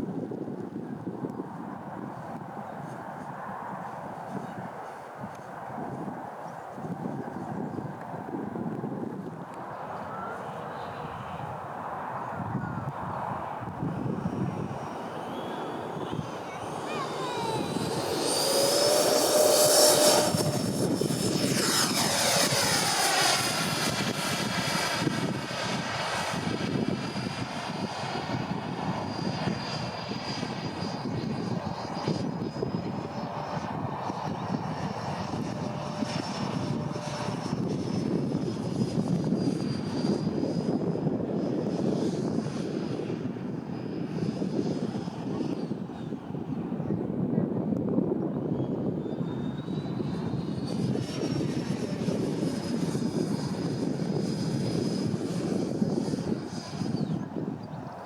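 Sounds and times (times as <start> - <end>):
model jet fans whining: 9.7 - 58.0.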